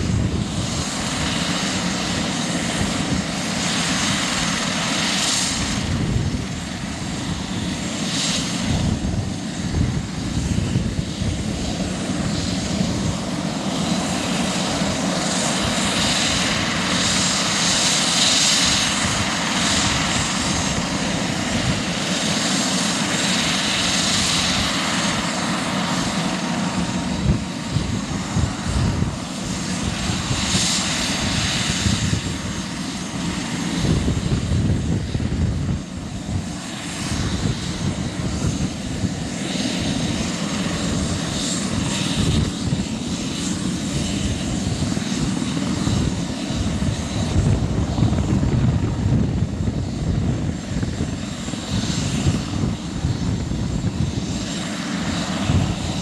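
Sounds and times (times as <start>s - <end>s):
helicopter engines whining: 0.0s - 56.0s
helicopter rotor whooshing: 0.0s - 56.0s.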